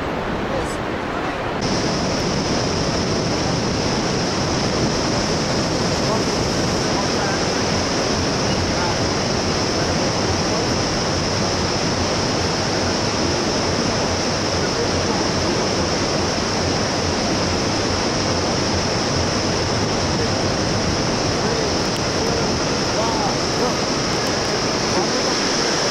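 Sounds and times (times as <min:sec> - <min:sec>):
river water rushing over rapids: 0:00.0 - 0:25.9.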